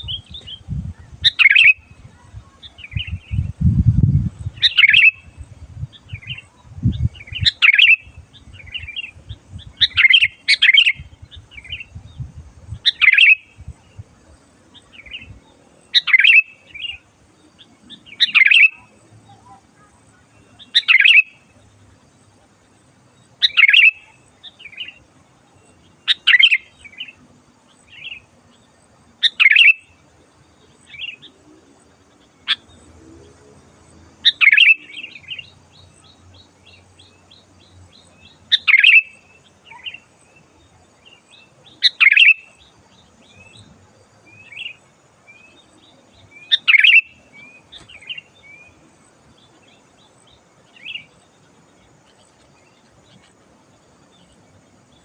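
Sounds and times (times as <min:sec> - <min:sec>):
bulbul calling: 0:00.0 - 0:03.6, 0:04.4 - 0:14.1, 0:14.7 - 0:21.6, 0:23.3 - 0:25.1, 0:25.7 - 0:27.2, 0:29.2 - 0:30.0, 0:32.2 - 0:32.8, 0:34.2 - 0:55.0.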